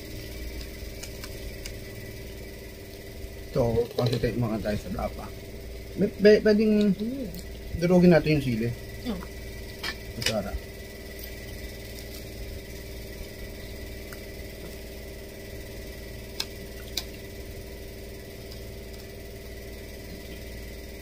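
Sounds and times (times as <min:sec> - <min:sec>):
appliance electrical hum: 0:00.0 - 0:21.0.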